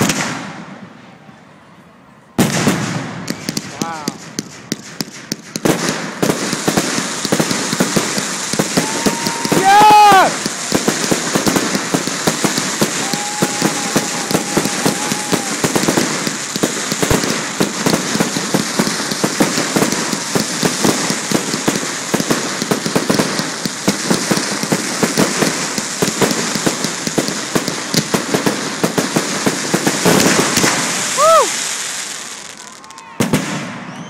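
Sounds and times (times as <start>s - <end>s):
fireworks crackling: 2.4s - 34.0s.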